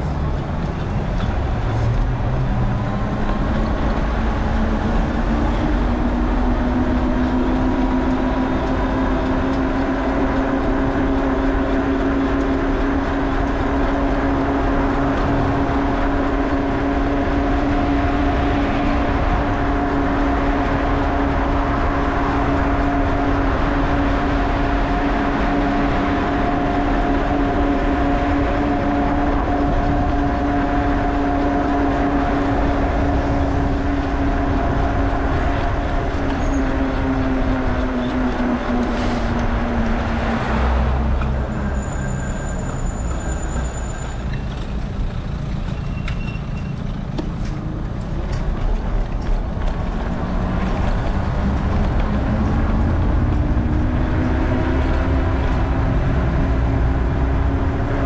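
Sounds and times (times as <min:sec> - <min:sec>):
road rumble: 0:00.0 - 0:58.0.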